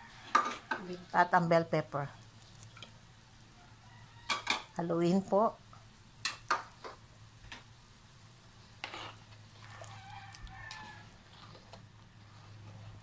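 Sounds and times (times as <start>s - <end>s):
broth boiling: 0.0s - 13.0s.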